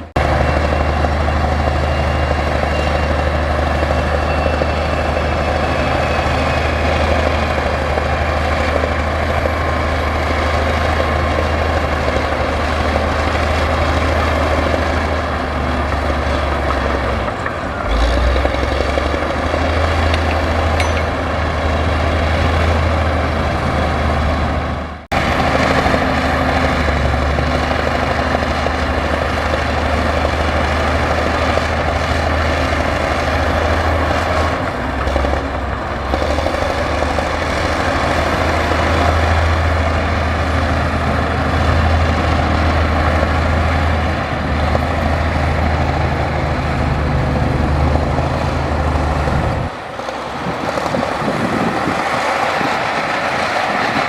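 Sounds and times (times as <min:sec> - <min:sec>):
diesel engine droning under load: 0:00.0 - 0:54.0.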